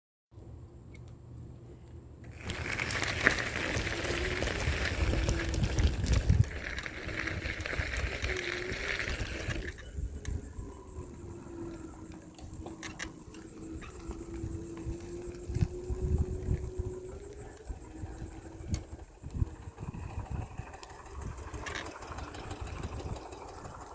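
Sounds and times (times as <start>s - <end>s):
steady low hum: 0.4s - 23.9s
wind rushing over microphone: 2.4s - 23.9s.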